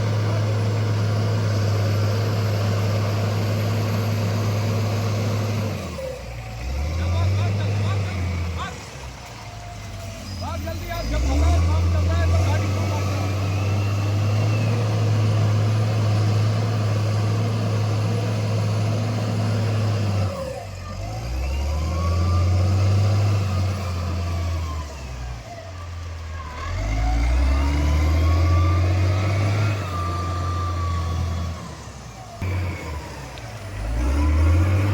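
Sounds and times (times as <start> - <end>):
heavy diesel engines running: 0.0 - 34.9.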